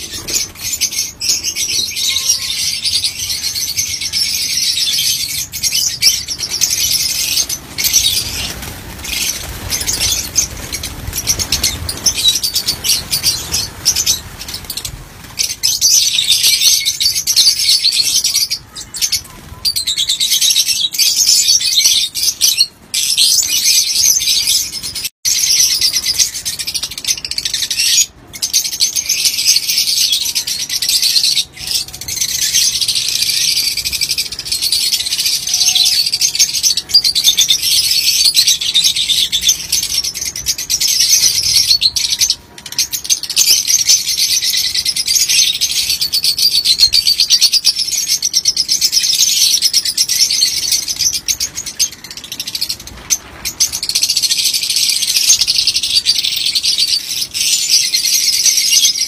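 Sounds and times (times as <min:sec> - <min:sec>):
flock of birds chattering: 0:00.0 - 0:59.0.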